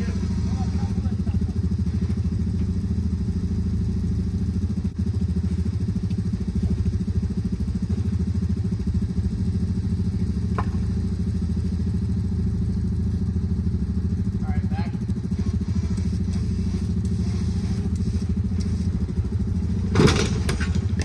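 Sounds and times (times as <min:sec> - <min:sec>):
car engine idling at low revs: 0:00.0 - 0:21.0.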